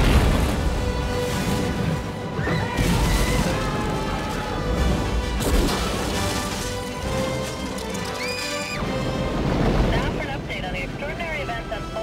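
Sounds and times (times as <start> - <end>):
dramatic trailer music: 0.0 - 12.0.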